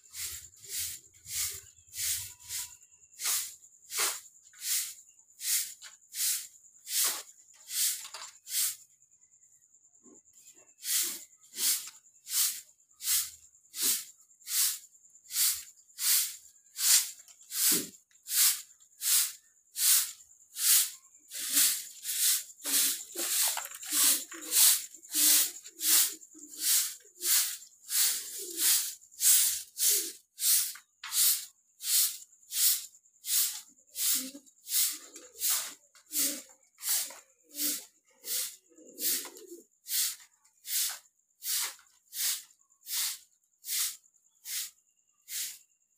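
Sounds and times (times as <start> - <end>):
broom sweeping cement floor: 0.0 - 8.9, 10.0 - 45.9.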